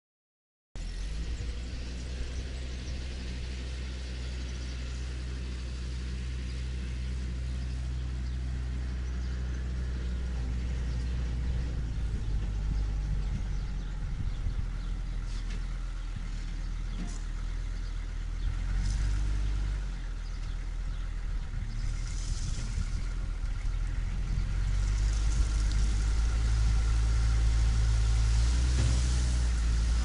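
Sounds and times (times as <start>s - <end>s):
tractor engine running: 0.8s - 30.0s.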